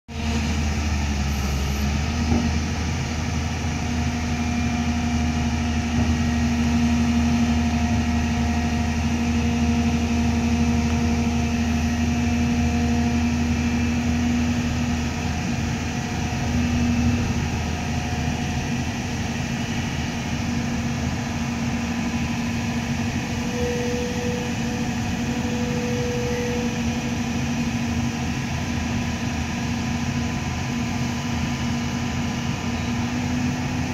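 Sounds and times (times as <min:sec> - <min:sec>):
excavator diesel engine running: 0:00.1 - 0:33.9
hydraulic whine: 0:00.1 - 0:33.9.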